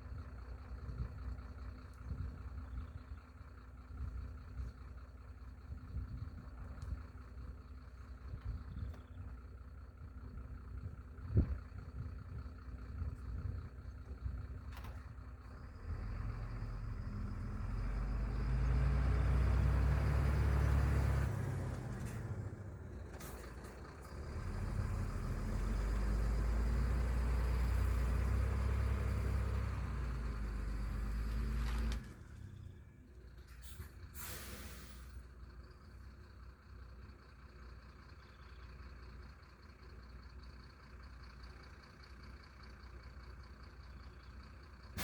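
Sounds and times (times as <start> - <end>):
heavy engine running: 0.0 - 45.0.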